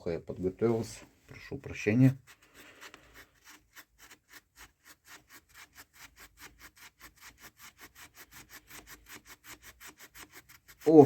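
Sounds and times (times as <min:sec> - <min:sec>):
rapid scrubbing on metal: 0:00.8 - 0:11.0.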